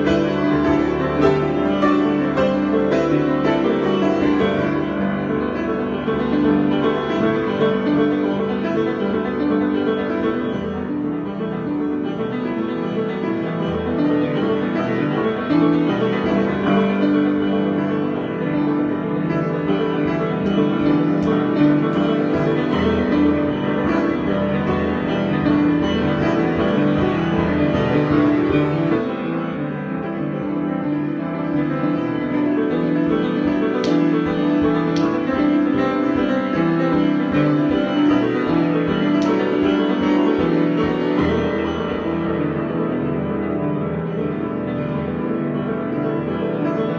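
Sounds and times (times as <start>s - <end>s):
slow piano improvisation: 0.0s - 46.9s.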